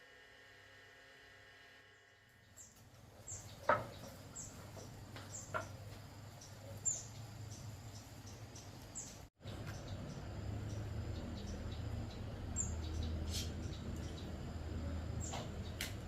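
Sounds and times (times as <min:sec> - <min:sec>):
small bird chirping: 0:02.4 - 0:16.0.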